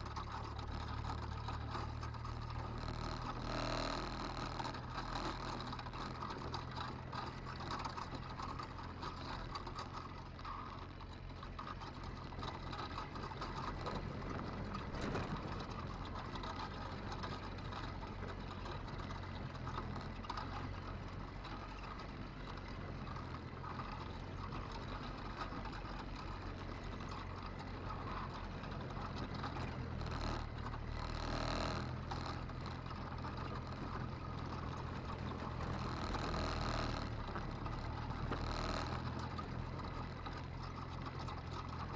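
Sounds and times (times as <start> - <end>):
rattling and clatter: 0.0 - 41.9
vehicle engine humming: 0.0 - 41.9.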